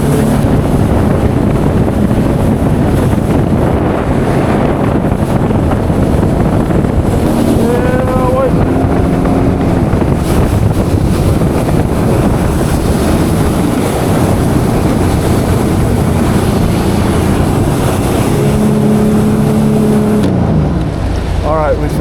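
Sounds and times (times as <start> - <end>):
jet ski engine hum: 0.0 - 22.0
wind on microphone: 0.0 - 22.0.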